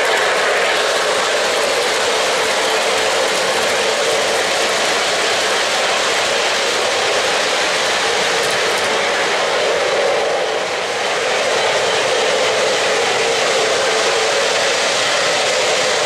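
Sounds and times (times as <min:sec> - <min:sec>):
model train wheels rolling on rails: 0:00.0 - 0:16.0.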